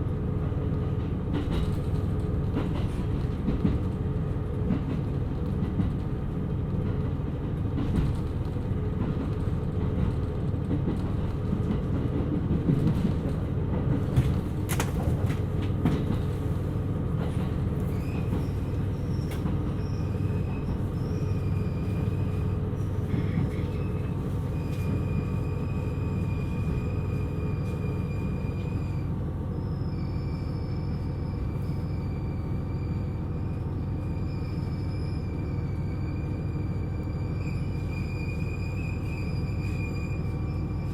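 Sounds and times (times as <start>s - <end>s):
diesel railcar rumbling: 0.0s - 40.9s.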